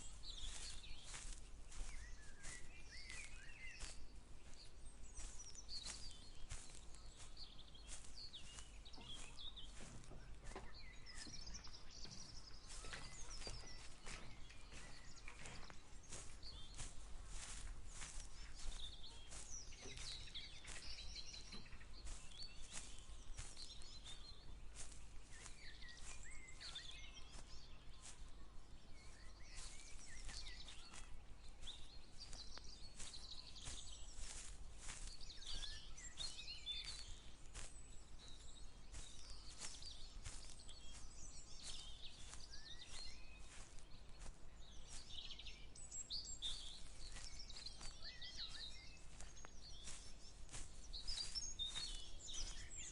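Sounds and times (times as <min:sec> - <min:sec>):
footsteps walking: 0:00.0 - 0:52.9
songbirds chirping: 0:00.0 - 0:52.9.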